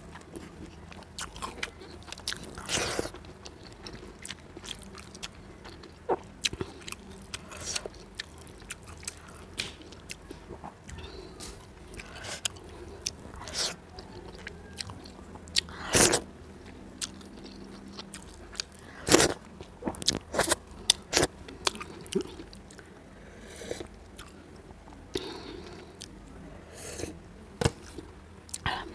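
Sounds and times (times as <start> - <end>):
chewing and crunching: 0.0 - 28.9.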